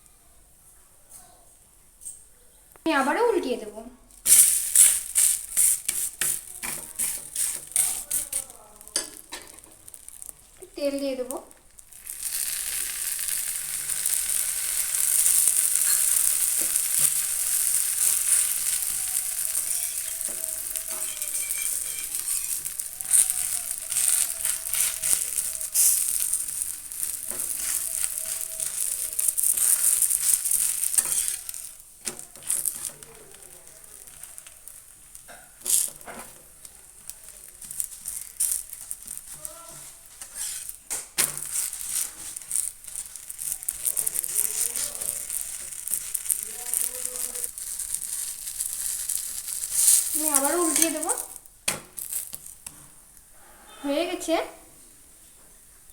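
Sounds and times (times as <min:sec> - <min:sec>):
flatbread sizzling in hot oil: 0:04.2 - 0:53.3
sharp clicks and scrapes: 0:04.3 - 0:10.5, 0:11.6 - 0:52.9.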